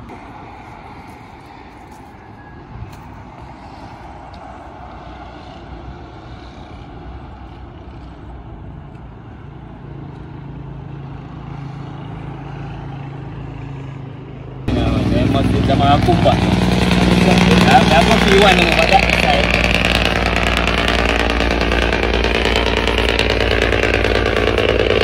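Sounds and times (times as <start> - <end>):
heavy vehicle engine drone: 0.0 - 25.0
passing highway traffic: 0.0 - 25.0.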